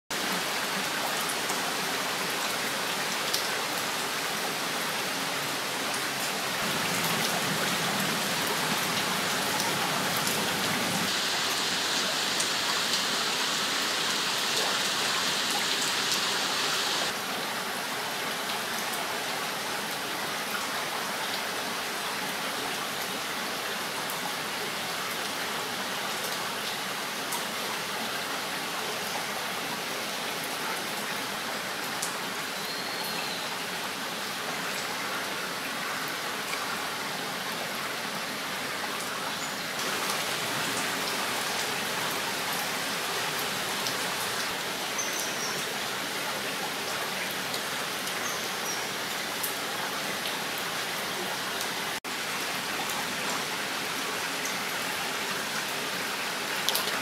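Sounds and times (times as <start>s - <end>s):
rain on water and leaves: 0.1s - 57.0s.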